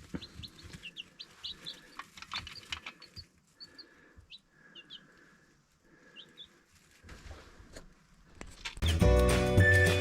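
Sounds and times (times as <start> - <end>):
baby chicks peeping: 0.0 - 7.0, 8.5 - 10.0.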